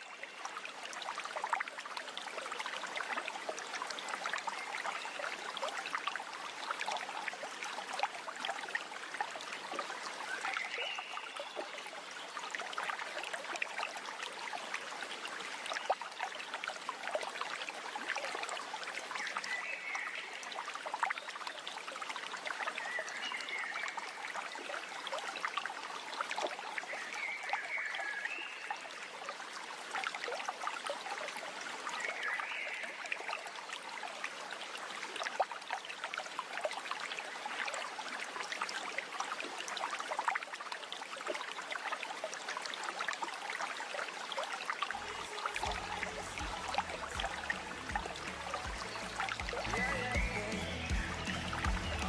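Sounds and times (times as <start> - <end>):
water babbling: 0.0 - 52.0.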